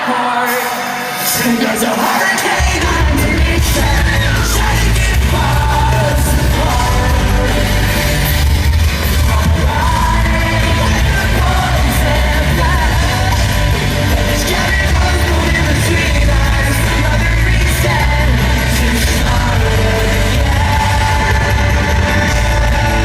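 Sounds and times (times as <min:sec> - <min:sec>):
person singing: 0:00.0 - 0:23.0
pop-rock band playing live: 0:00.0 - 0:23.0
heavy bass: 0:02.5 - 0:23.0.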